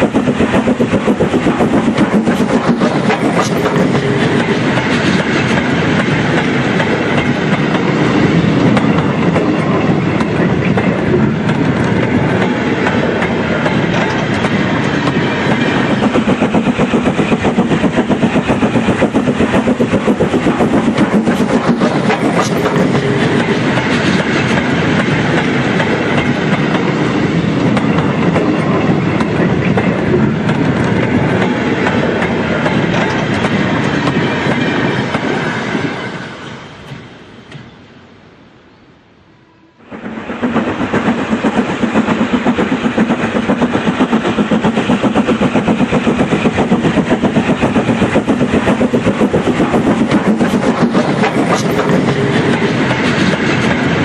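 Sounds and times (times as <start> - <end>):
model train wheels clicking on track: 0.0 - 35.4, 40.1 - 54.0.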